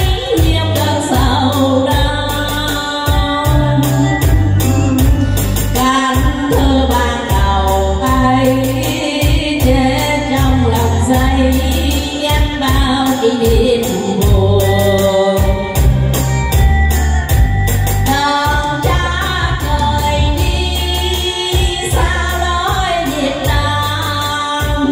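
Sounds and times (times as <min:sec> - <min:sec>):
woman singing into a microphone: 0:00.0 - 0:16.4, 0:18.0 - 0:24.9
instrumental music with beat: 0:00.0 - 0:24.9.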